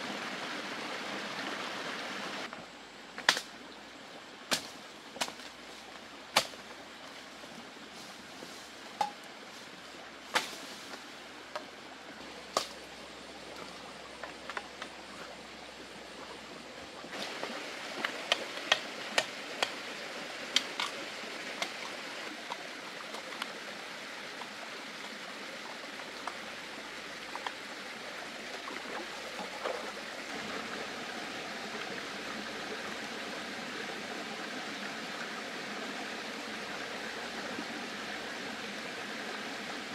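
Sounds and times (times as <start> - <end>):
running water rushing: 0.0 - 2.5, 3.8 - 39.9.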